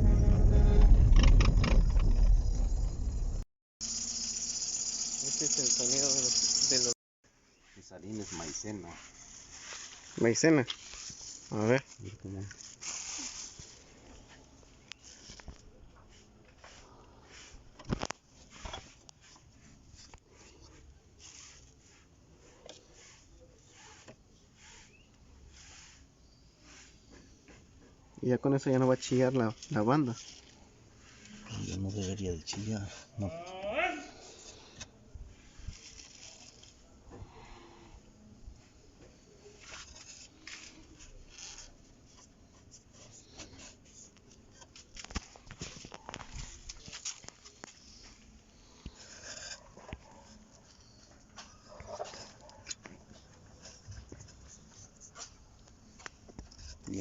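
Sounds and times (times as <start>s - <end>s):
soft rustling and scratching: 7.5s - 33.3s, 34.2s - 36.9s, 38.5s - 57.0s.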